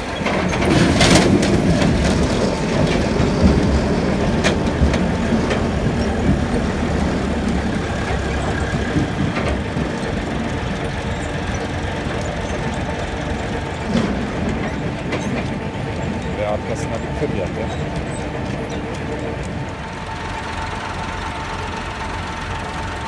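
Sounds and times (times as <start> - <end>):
tractor diesel engine under load: 0.0 - 23.0
trailer clattering over gravel: 0.0 - 23.0.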